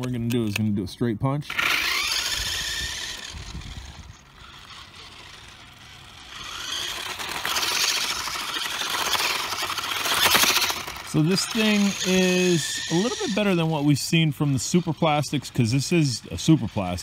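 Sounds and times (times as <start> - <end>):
rc truck motor and gear whine: 1.4 - 17.0
tyre noise on asphalt: 1.5 - 17.0.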